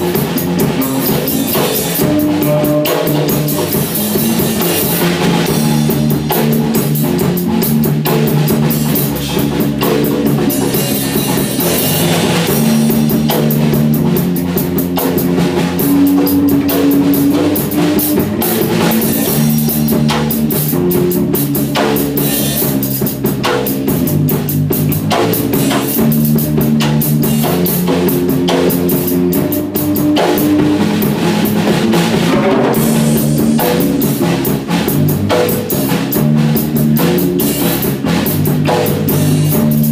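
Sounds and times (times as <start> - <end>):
drum kit beat with cymbals: 0.0 - 39.9
electric bass guitar: 0.0 - 39.9.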